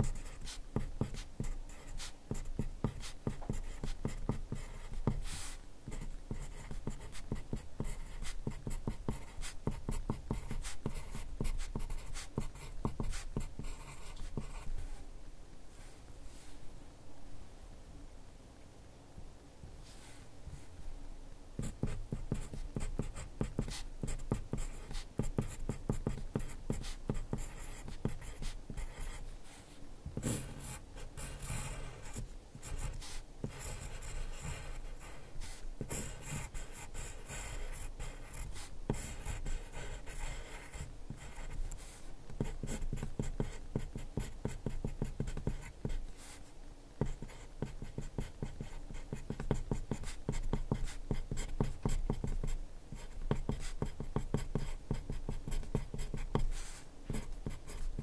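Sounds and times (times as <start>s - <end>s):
pencil writing on paper: 0.0s - 15.0s, 21.6s - 58.0s.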